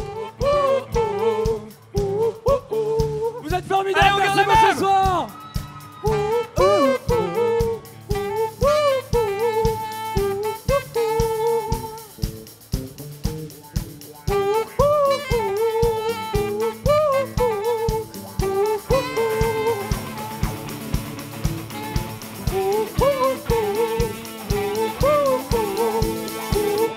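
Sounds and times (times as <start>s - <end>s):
saxophone solo: 0.0s - 2.3s, 3.9s - 12.6s, 13.8s - 26.9s
live band playing: 0.0s - 26.9s.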